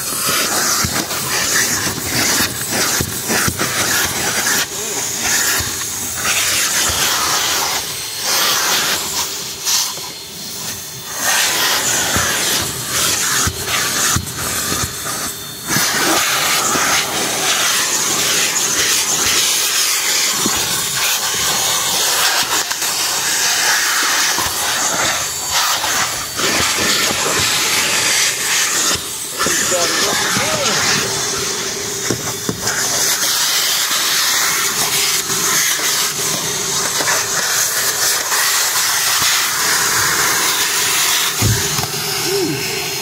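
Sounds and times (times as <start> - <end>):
vacuum hose sucking air: 0.0 - 43.0.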